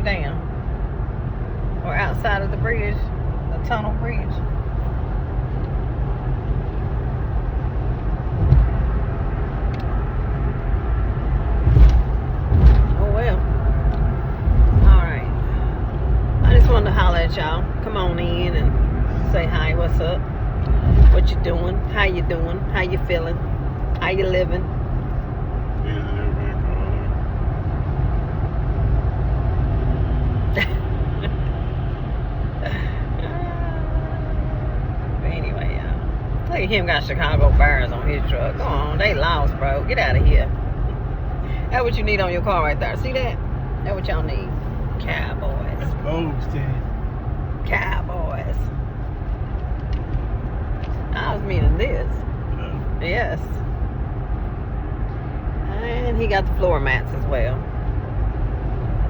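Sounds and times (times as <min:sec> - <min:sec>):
low rumble: 0:00.0 - 0:59.0
truck road and engine noise: 0:00.0 - 0:59.0.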